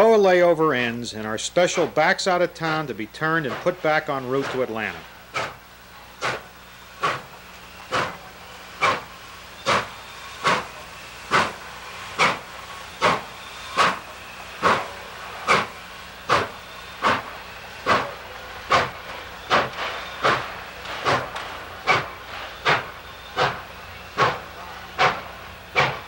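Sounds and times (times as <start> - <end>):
steam hissing: 0.0 - 26.0
steam locomotive chuffing: 0.0 - 26.0.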